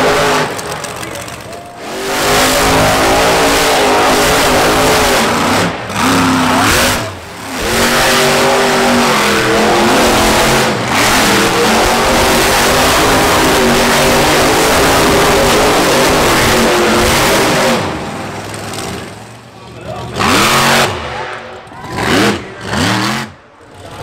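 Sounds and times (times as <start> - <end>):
truck engines revving hard: 0.0 - 24.0.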